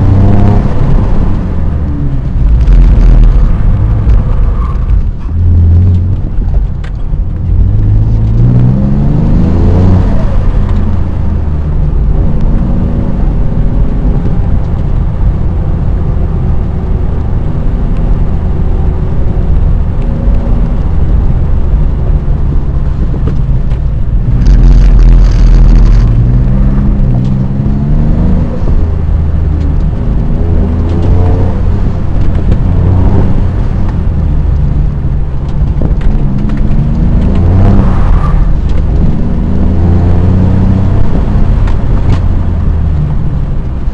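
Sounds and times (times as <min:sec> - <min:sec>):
car engine revving hard: 0:00.0 - 0:06.4, 0:07.4 - 0:14.6, 0:18.2 - 0:43.9.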